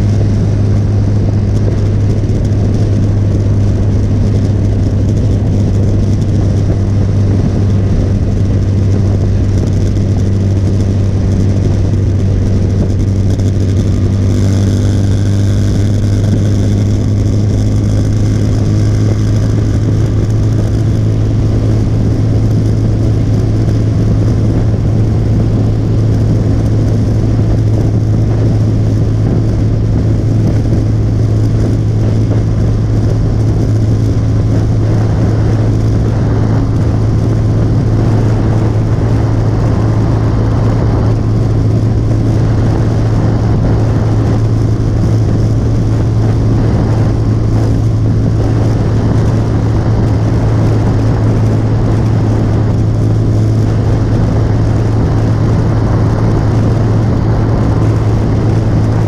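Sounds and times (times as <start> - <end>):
motorcycle engine droning: 0.0 - 59.0
wind rushing over microphone: 0.0 - 59.0.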